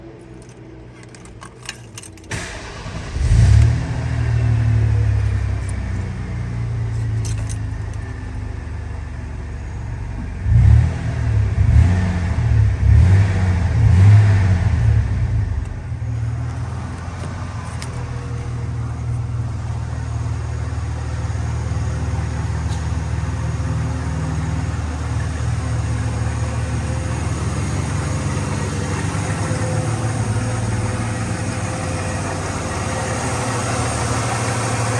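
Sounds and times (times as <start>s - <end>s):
truck engine idling and revving: 0.0s - 34.9s
truck engine starting: 0.2s - 9.6s, 10.3s - 34.9s.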